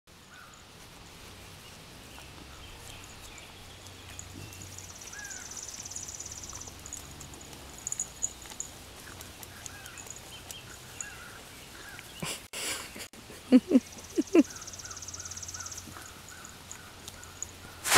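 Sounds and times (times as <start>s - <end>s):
dogs scuffling on grass: 0.1s - 12.2s, 15.2s - 17.9s.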